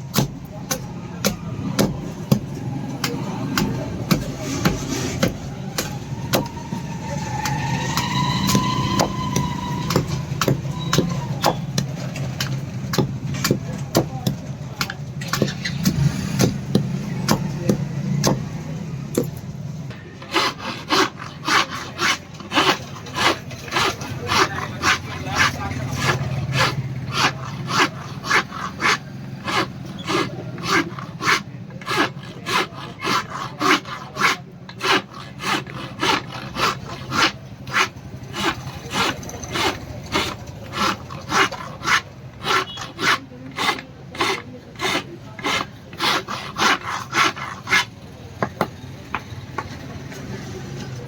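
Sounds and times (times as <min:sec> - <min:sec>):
hand file rasping on steel: 0:00.1 - 0:18.5, 0:20.0 - 0:49.7.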